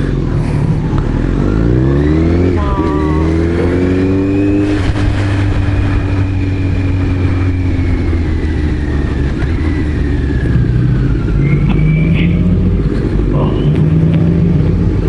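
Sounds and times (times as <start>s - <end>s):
motorcycle engine running: 0.0s - 15.0s
road and wind rumble: 0.0s - 15.0s.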